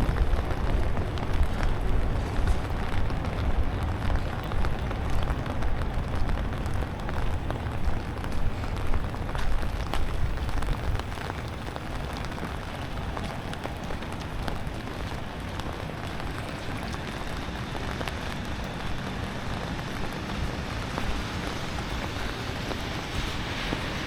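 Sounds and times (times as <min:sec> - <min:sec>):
rain on a wet street: 0:00.0 - 0:24.0.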